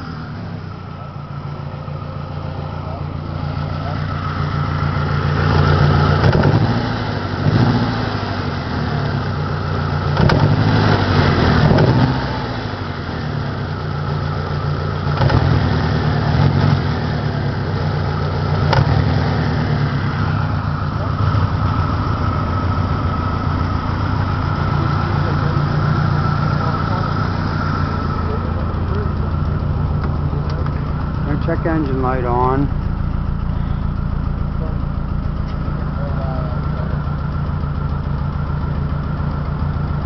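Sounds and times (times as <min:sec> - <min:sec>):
car engine idling with misfire: 0:00.0 - 0:40.0
engine revving: 0:00.0 - 0:40.0.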